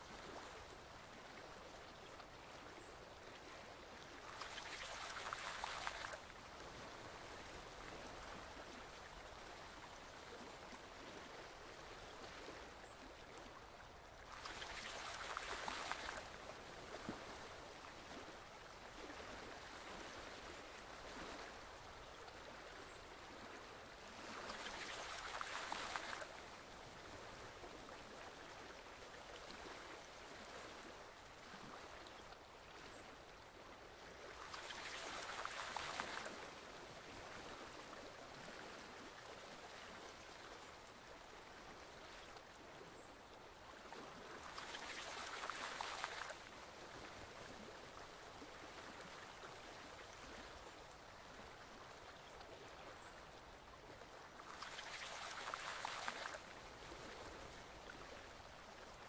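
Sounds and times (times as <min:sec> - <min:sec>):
rush of water: 0:00.0 - 0:59.0
stream flowing: 0:00.0 - 0:59.0.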